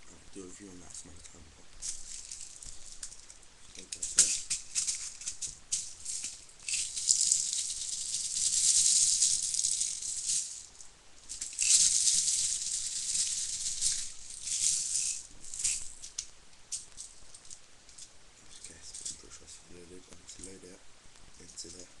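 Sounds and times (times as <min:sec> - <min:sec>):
plastic pellets rattling in bottle: 0:01.8 - 0:20.7, 0:21.4 - 0:21.9.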